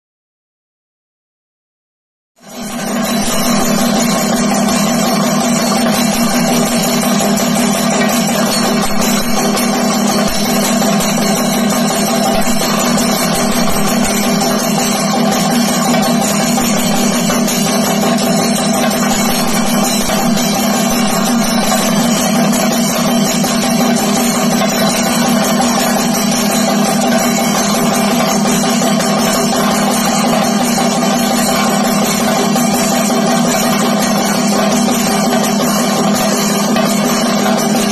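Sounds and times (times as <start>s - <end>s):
drums rolling with sticks: 2.4s - 37.9s
hand cymbals: 2.4s - 37.9s.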